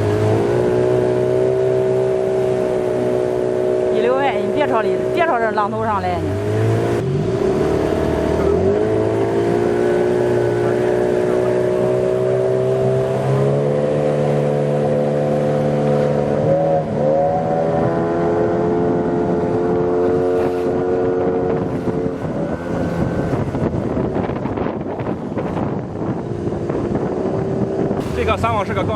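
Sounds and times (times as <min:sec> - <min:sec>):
boat motor running: 0:00.0 - 0:28.9.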